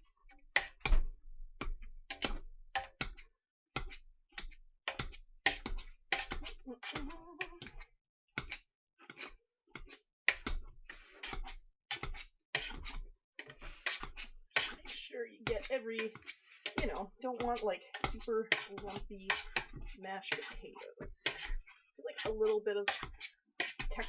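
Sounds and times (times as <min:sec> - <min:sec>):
potato masher mashing potatoes: 0:00.6 - 0:24.0.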